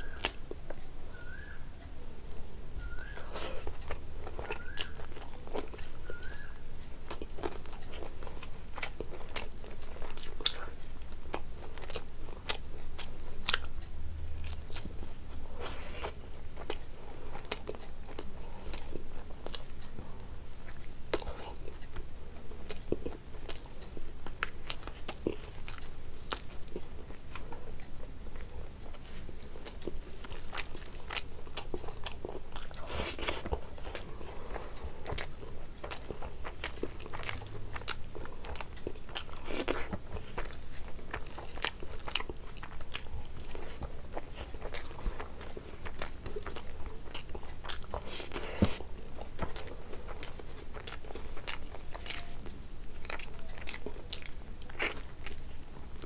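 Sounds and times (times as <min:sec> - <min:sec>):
noisy chewing: 0:00.0 - 0:56.0.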